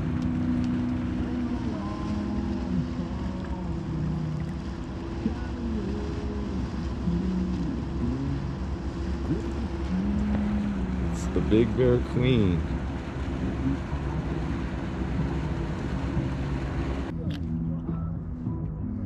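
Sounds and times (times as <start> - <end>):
wind on microphone: 0.0 - 18.6
boat motor running: 0.0 - 19.0.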